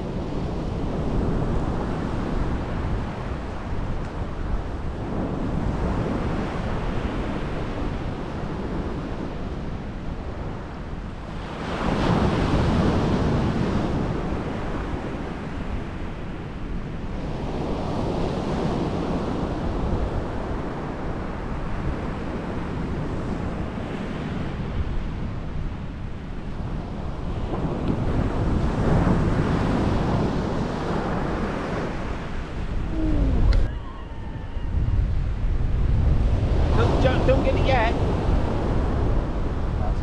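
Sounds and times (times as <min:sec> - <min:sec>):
sea surf breaking: 0:00.0 - 0:25.2, 0:26.2 - 0:40.0
wind noise on microphone: 0:00.0 - 0:40.0.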